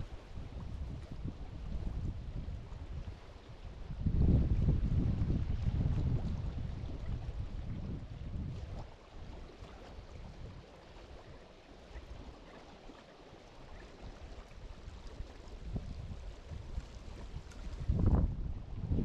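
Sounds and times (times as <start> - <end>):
wind gusting across microphone: 0.0 - 10.6, 14.0 - 19.0
water lapping at shore: 0.0 - 19.0.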